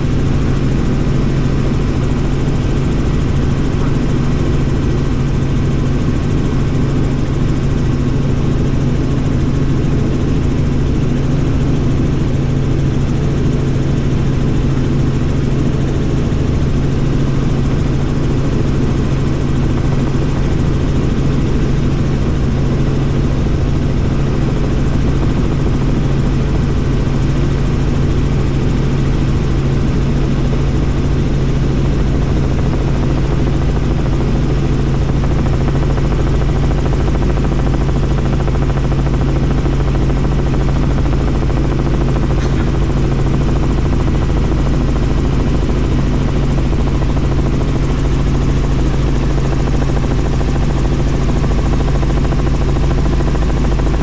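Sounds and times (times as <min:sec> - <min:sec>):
helicopter engine and rotors droning: 0:00.0 - 0:54.0.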